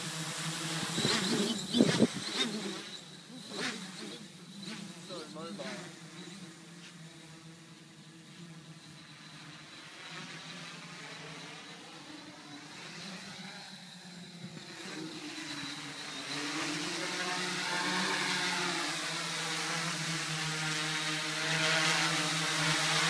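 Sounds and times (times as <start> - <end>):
quadcopter propellers whining: 0.0 - 23.0.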